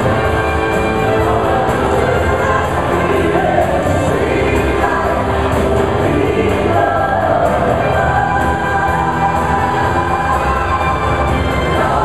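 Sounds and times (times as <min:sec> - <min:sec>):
group of people singing: 0:00.0 - 0:12.0
live band and orchestra playing: 0:00.0 - 0:12.0.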